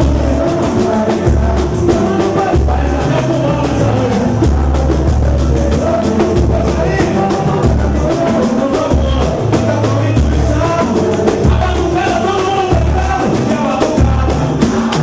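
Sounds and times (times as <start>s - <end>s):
bass line: 0.0s - 15.0s
pandeiro and percussion: 0.0s - 15.0s
voices singing: 0.0s - 15.0s.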